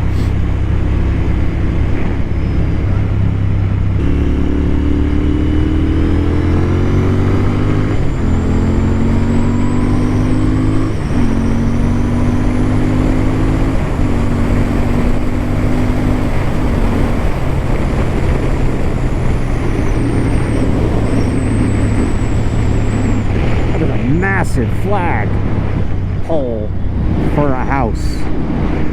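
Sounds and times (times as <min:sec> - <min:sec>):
motorcycle engine shifting gears: 0:00.0 - 0:28.9
wind rushing over microphone: 0:00.0 - 0:28.9.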